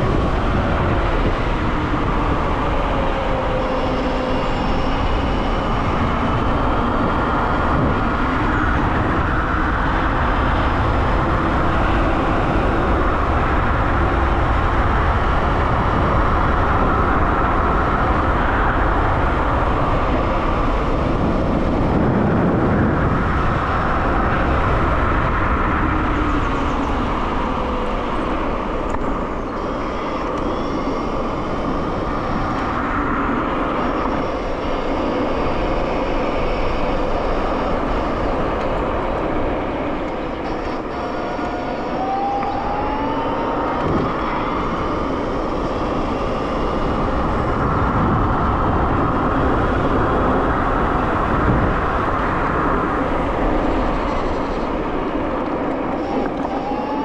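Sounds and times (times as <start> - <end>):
faint high whining tones: 0.0 - 57.0
wind buffeting microphone: 0.0 - 57.0.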